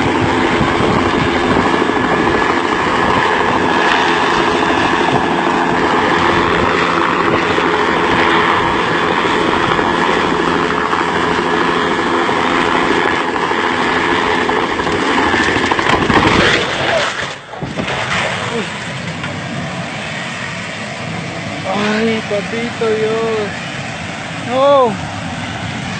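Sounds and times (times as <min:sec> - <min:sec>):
helicopter hovering: 0:00.0 - 0:25.9
rotor downwash rush: 0:00.0 - 0:25.9.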